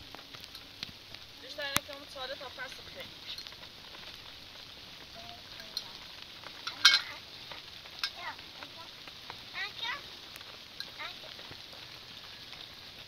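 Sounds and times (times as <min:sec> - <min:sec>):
food sizzling over a fire: 0:00.0 - 0:13.0.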